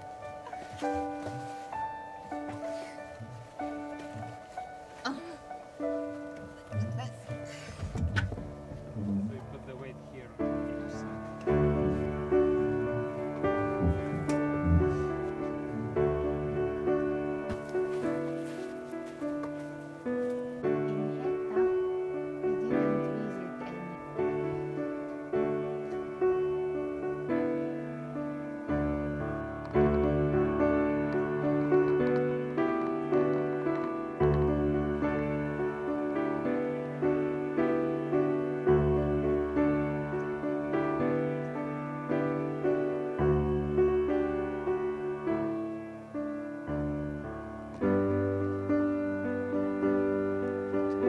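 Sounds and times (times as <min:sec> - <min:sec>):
slow piano chords: 0:00.0 - 0:51.0.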